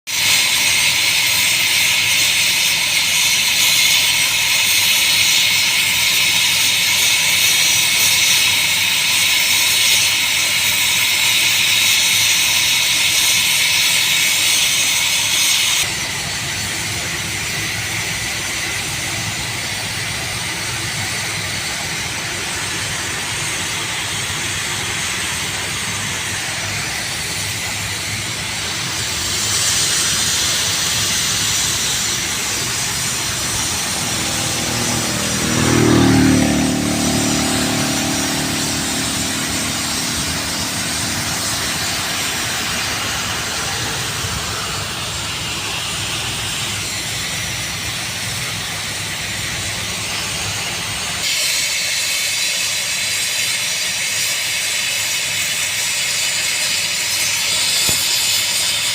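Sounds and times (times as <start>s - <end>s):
steam vent hissing: 0.1s - 35.6s, 38.8s - 58.9s.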